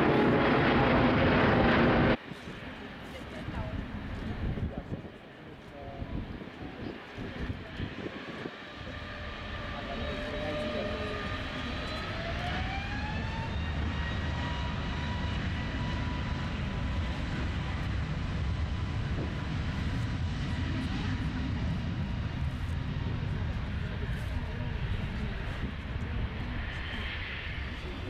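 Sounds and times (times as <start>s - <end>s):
deep rumble: 0.0s - 2.2s, 6.1s - 28.0s.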